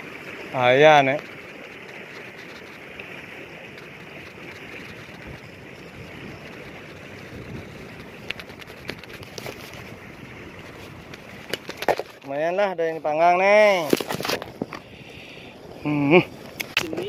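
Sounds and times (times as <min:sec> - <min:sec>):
small waves against stone wall: 0:00.0 - 0:15.4
wind: 0:00.0 - 0:17.0.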